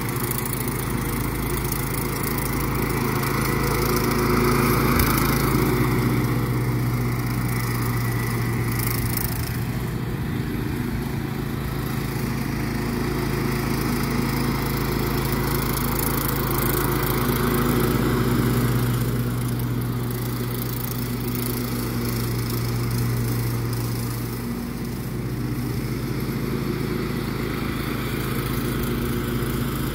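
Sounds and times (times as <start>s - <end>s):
lawn mower engine running: 0.0s - 29.9s.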